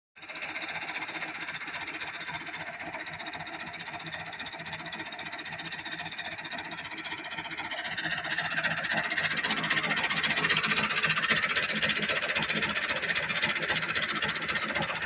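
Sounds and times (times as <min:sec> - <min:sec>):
tractor diesel engine clattering: 0:00.2 - 0:15.0.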